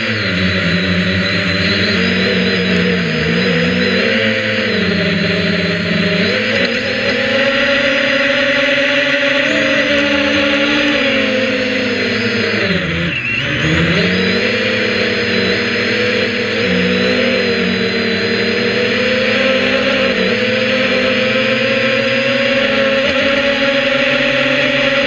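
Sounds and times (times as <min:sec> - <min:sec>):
drone motors buzzing whine: 0:00.0 - 0:25.0.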